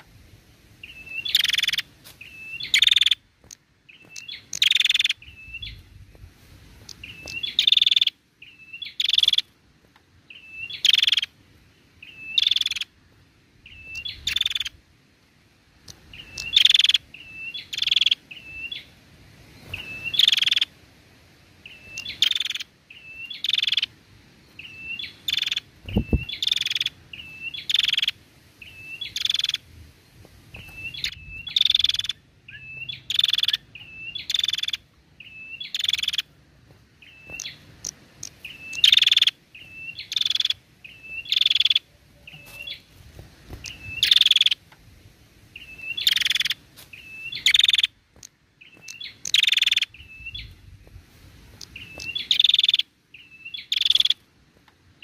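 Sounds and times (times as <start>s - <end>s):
bird chirping and buzzing: 0.8s - 6.2s, 6.8s - 14.8s, 15.8s - 20.8s, 21.6s - 44.8s, 45.5s - 54.3s.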